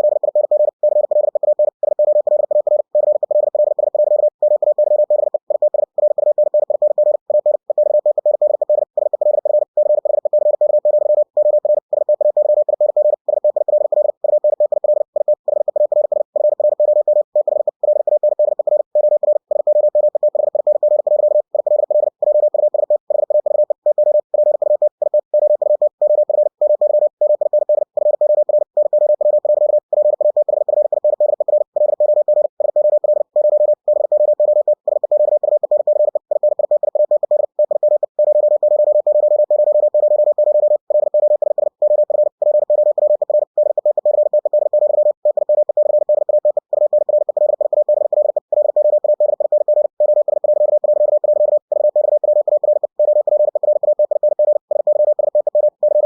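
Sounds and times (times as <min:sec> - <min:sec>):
morse code tone: 0:00.0 - 0:56.0.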